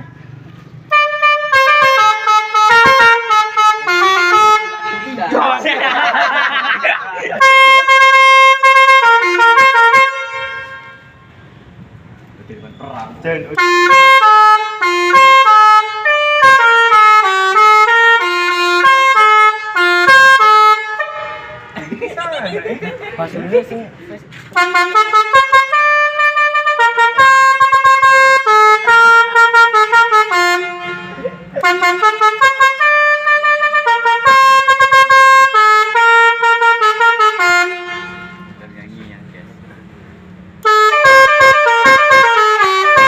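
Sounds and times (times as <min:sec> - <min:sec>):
multi-tone bus horn melody: 0:00.8 - 0:06.5, 0:07.3 - 0:11.8, 0:13.5 - 0:22.4, 0:24.3 - 0:38.7, 0:40.4 - 0:43.0.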